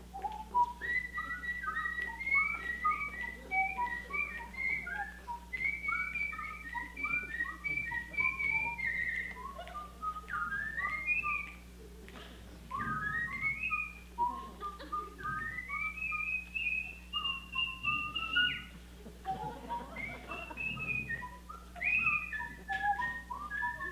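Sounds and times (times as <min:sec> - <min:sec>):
people whistling a tune: 0:00.0 - 0:23.9.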